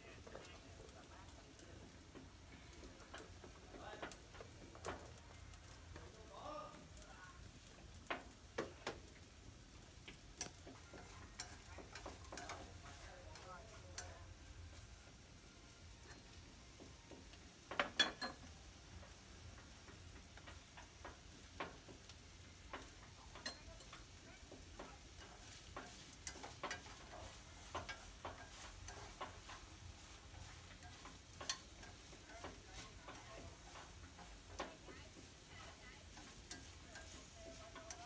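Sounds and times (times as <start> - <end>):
quiet sizzle of frying: 0.0 - 38.0
chopsticks clicking against wok: 0.1 - 38.0.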